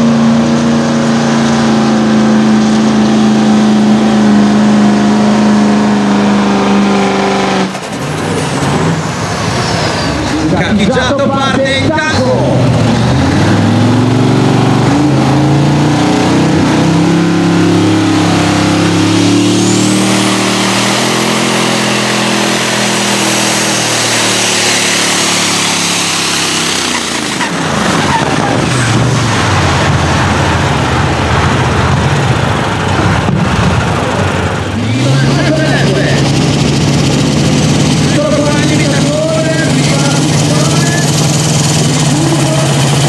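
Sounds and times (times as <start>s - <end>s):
truck diesel engine at full throttle: 0.0s - 43.0s.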